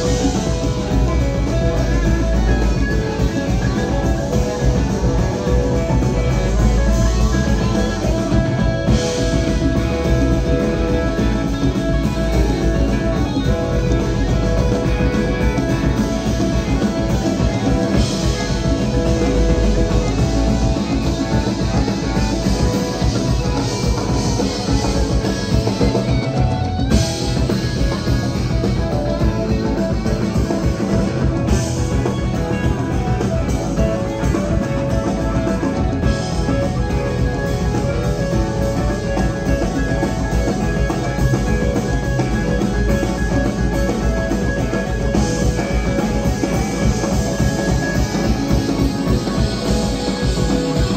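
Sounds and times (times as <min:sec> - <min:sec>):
bass guitar: 0:00.0 - 0:50.9
congas: 0:00.0 - 0:50.9
drum kit: 0:00.0 - 0:50.9
electric guitars: 0:00.0 - 0:50.9
keyboard: 0:00.0 - 0:50.9.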